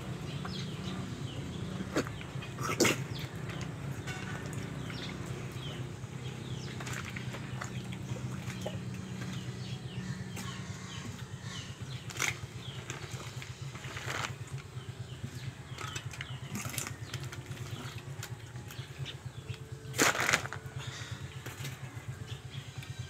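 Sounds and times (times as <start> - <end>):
low fluttering hum: 0.0 - 23.0.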